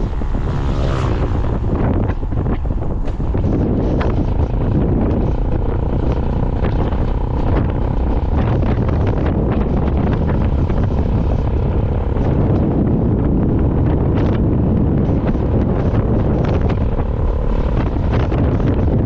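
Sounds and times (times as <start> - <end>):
vehicle driving on road: 0.0 - 19.0
wind buffeting microphone: 0.0 - 19.0.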